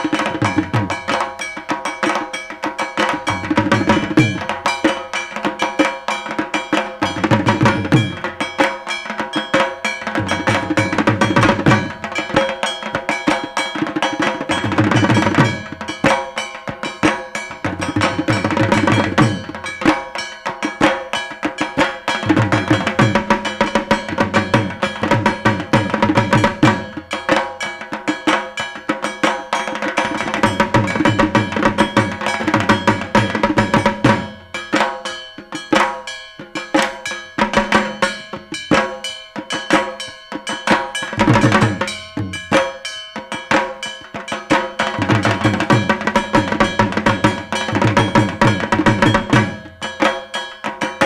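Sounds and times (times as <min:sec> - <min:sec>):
barrel drum fast rhythm: 0:00.0 - 0:51.0
ringing clang: 0:00.0 - 0:51.0.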